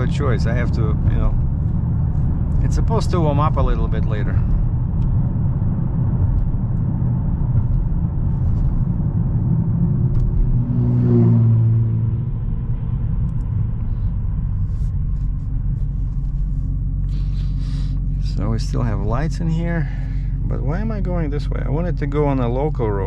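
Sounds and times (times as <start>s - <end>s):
car engine cruising: 0.0s - 23.0s
road noise: 0.0s - 23.0s.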